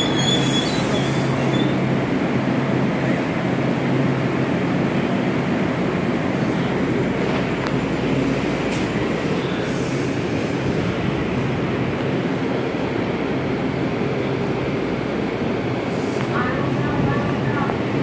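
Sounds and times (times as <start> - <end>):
rail cars rumbling and hissing: 0.0 - 18.0.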